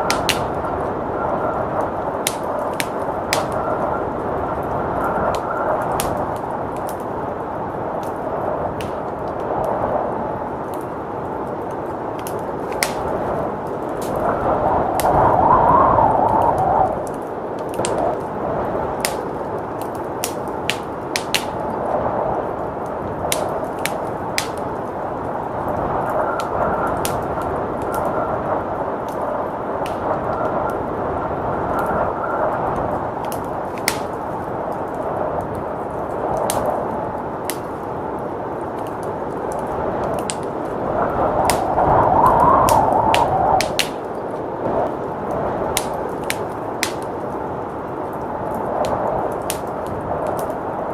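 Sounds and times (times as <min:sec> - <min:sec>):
blizzard wind rushing: 0:00.0 - 0:50.9
faint whistle of wind: 0:00.0 - 0:50.9
wood fire crackling: 0:00.0 - 0:50.9.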